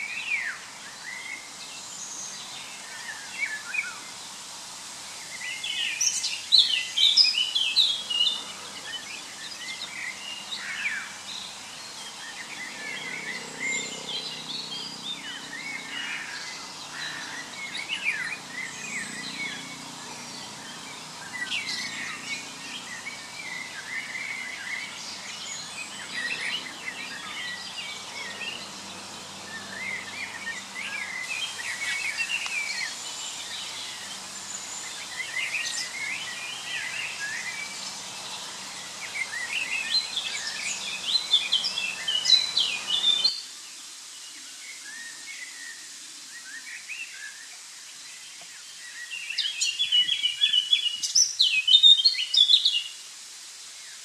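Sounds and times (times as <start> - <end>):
steady background hiss: 0.0 - 54.0
birds chirping and singing: 5.2 - 43.5, 44.4 - 53.0.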